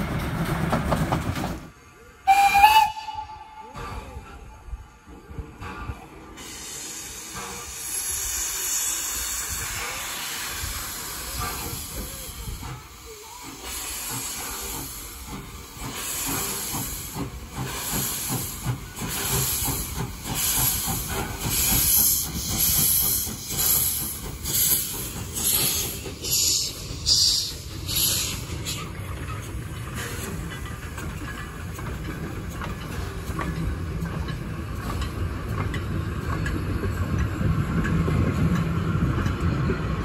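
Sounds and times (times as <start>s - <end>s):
train rolling: 0.0s - 40.0s
steam hissing: 2.3s - 40.0s
steam locomotive exhaust chuffs: 2.3s - 40.0s.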